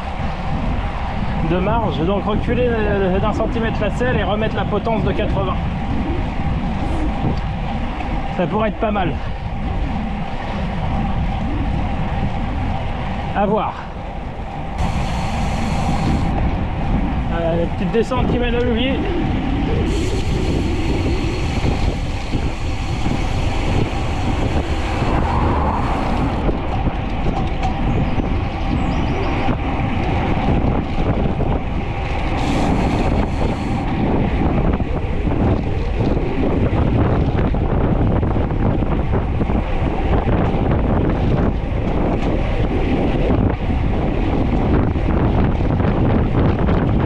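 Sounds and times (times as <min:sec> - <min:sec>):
tyre and road noise: 0:00.0 - 0:47.0
wind rushing over microphone: 0:00.0 - 0:47.0.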